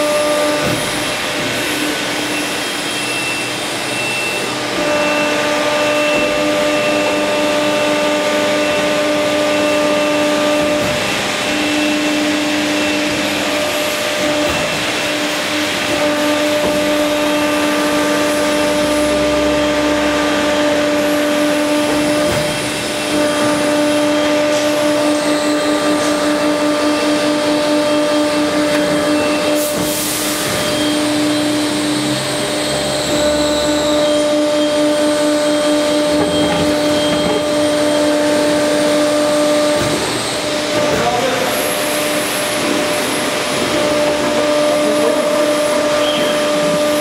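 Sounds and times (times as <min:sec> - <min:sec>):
plate rolling machine drone: 0:00.0 - 0:47.0.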